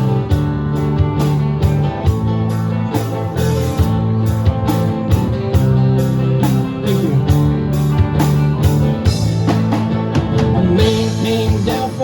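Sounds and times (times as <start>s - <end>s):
bass guitar: 0.0s - 12.0s
drum kit steady beat: 0.0s - 12.0s
guitar: 0.0s - 12.0s.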